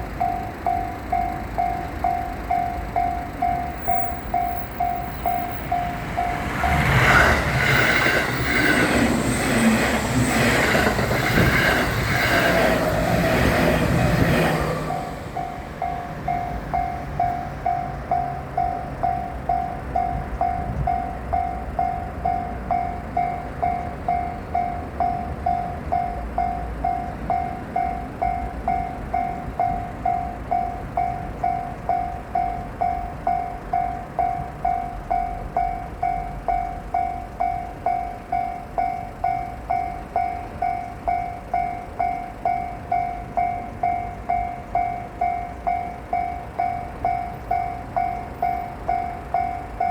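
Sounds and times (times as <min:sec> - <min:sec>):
level crossing warning bell ringing: 0:00.0 - 0:49.9
low rumble of rail traffic: 0:00.0 - 0:49.9.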